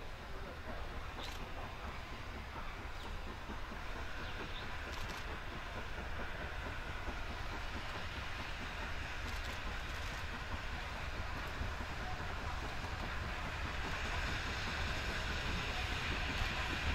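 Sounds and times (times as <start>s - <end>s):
steam train low rumble: 0.0s - 16.9s.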